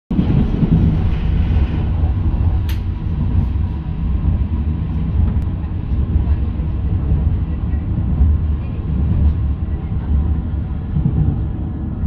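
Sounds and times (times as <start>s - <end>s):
train wheels rumbling: 0.1s - 12.0s.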